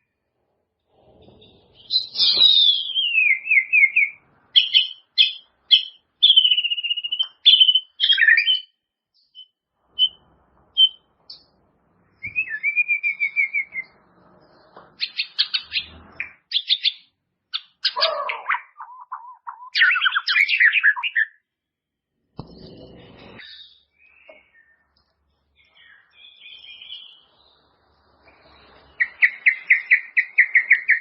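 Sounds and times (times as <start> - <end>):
bird singing whistles and trills: 1.2 - 11.5, 12.1 - 21.4, 23.2 - 25.0, 25.6 - 31.0.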